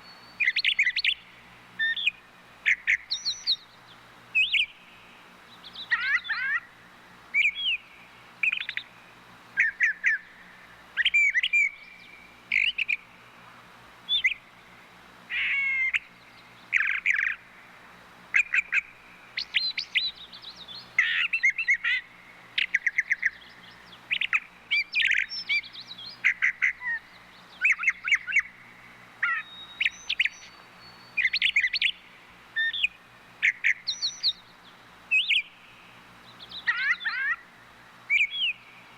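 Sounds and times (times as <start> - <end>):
thrushes singing: 0.0 - 38.9.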